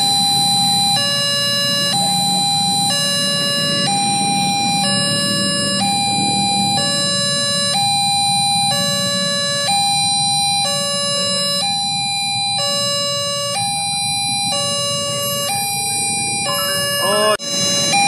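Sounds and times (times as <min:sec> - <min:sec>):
idling cars and motorbikes: 0:00.0 - 0:18.0
level crossing two-tone alarm: 0:00.0 - 0:18.0.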